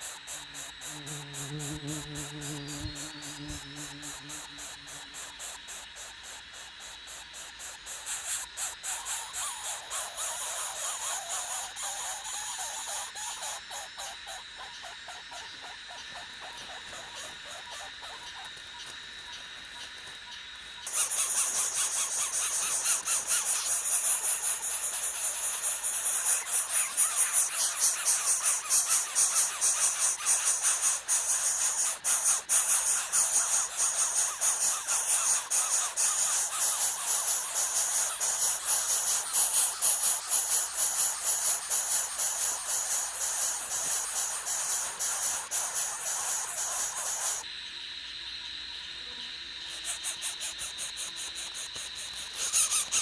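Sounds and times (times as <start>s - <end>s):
birds squealing chirps: 0.0s - 47.4s, 49.7s - 53.0s
insects trilling: 0.0s - 53.0s.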